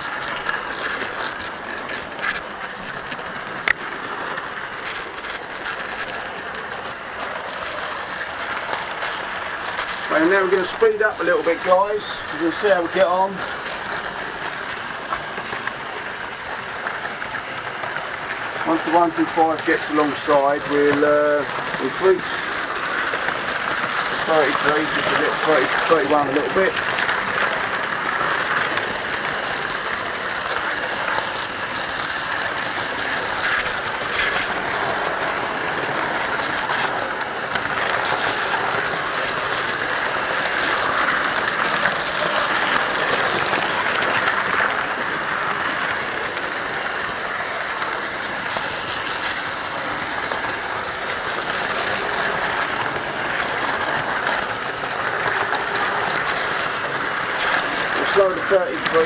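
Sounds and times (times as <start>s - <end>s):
model train wheels rattling: 0.0s - 59.0s
small electric motors: 0.0s - 59.0s.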